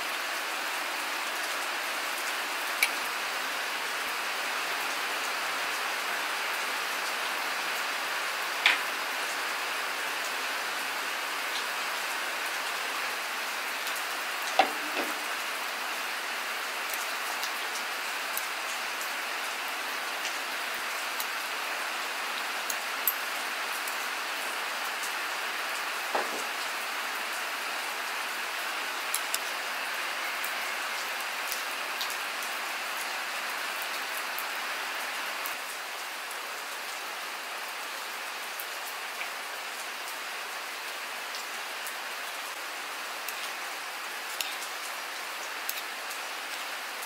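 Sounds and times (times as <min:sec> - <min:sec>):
steady rain hissing: 0:00.0 - 0:47.0.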